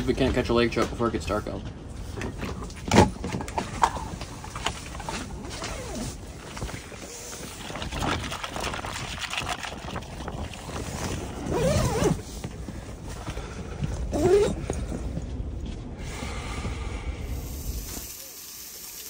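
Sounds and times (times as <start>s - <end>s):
tent fabric flapping in wind: 0.0s - 16.3s
low wind rumble: 0.0s - 18.0s.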